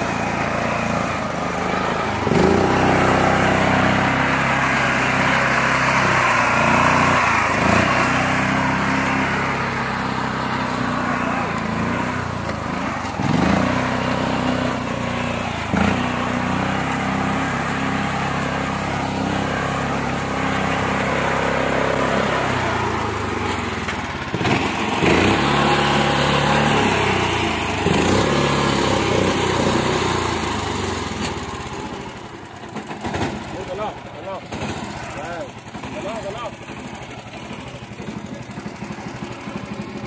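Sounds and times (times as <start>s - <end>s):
tractor engine under load: 0.0s - 40.0s.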